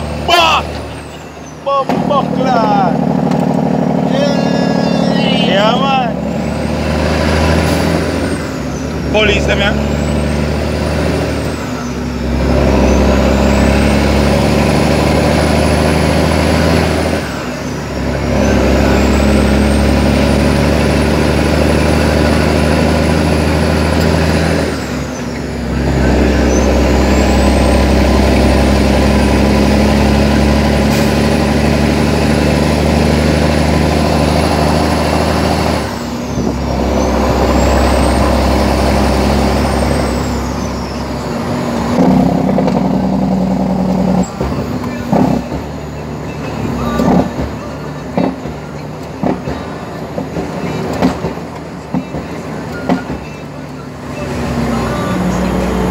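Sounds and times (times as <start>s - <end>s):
truck diesel engine pulling: 0.0s - 55.9s.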